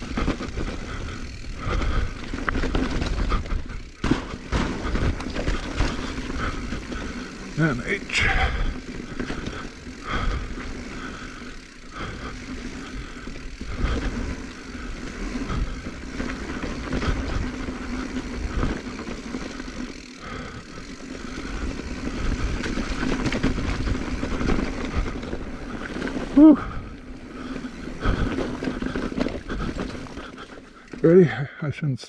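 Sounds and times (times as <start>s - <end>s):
bike knocking and rattling: 0.0s - 31.4s
bike tyres rolling on dirt: 0.0s - 31.6s.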